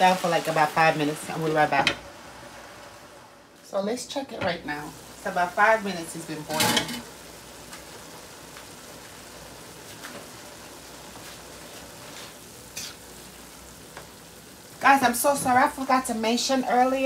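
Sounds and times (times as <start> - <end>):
vegetables sizzling in a pot: 0.0 - 17.0.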